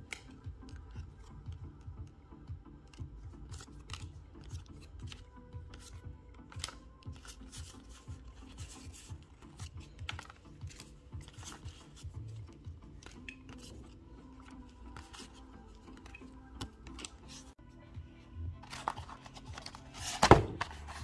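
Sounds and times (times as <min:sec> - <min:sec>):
trading cards clicking and scratching: 0:00.0 - 0:17.6, 0:18.6 - 0:21.0
quiet background music: 0:00.0 - 0:21.0.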